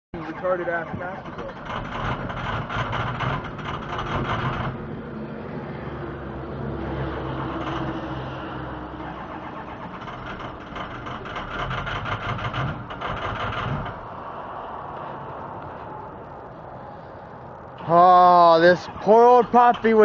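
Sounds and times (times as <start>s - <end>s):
diesel engine cranking: 0.2s - 20.0s.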